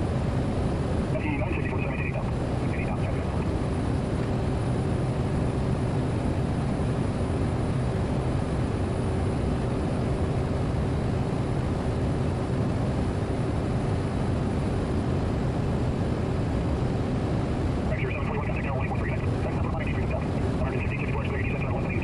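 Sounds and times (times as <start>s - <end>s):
turboprop engine drone: 0.0s - 22.0s.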